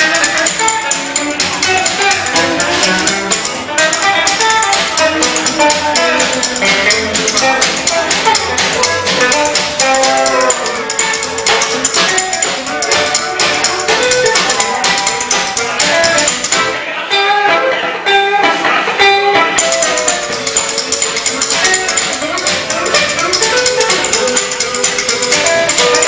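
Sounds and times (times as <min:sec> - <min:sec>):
steady drum beat: 0:00.0 - 0:16.8, 0:19.6 - 0:26.0
live band playing: 0:00.0 - 0:26.0.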